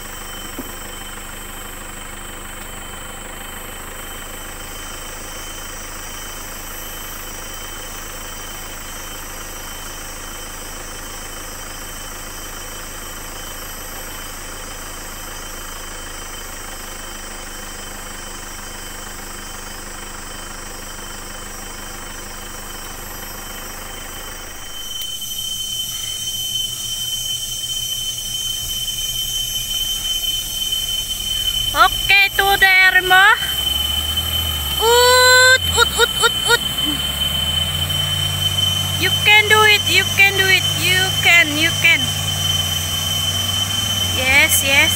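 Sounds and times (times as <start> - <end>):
high steady whine: 0.0 - 15.6, 21.8 - 44.9
vehicle engine running inside cabin: 0.0 - 44.9.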